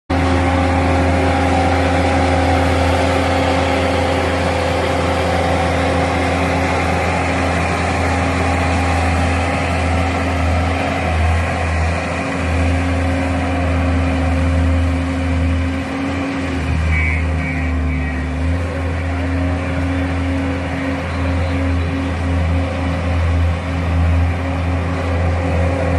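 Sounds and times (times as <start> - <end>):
diesel engine running: 0.1 - 25.9.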